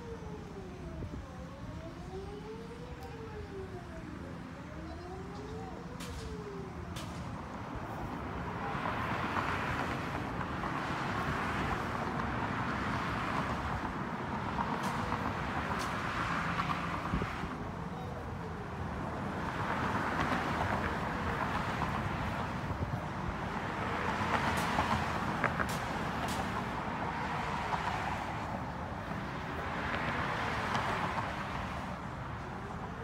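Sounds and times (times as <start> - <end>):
distant warning siren: 0.0 - 33.0
road traffic passing: 0.0 - 33.0.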